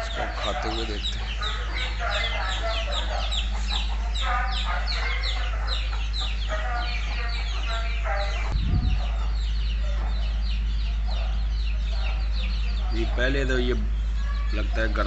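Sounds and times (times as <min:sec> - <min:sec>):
chickens clucking: 0:00.0 - 0:15.0
small birds chirping: 0:00.0 - 0:15.0
steady low hum: 0:00.0 - 0:15.0.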